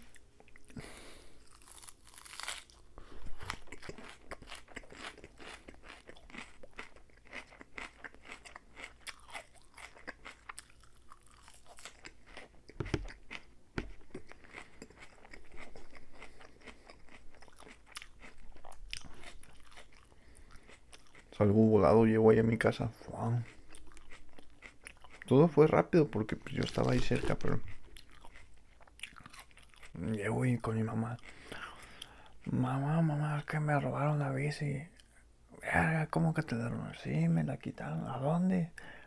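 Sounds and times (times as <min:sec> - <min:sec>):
chewing crisp lettuce: 0:00.0 - 0:32.6.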